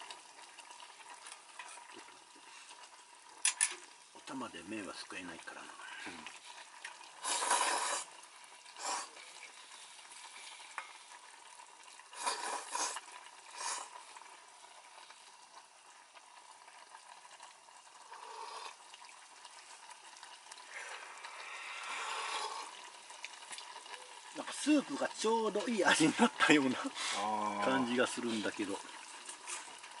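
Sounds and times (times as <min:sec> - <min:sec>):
soup pot sizzling: 0:00.0 - 0:30.0.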